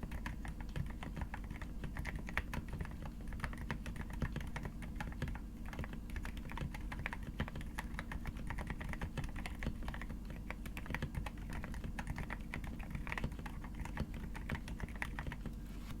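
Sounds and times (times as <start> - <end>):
fast typing on keyboard: 0.0 - 15.6.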